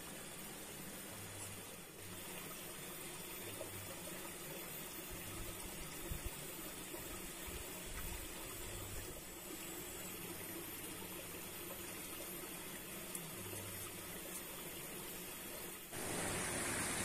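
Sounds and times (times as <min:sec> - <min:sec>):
water trickling in stream: 0:00.0 - 0:17.0.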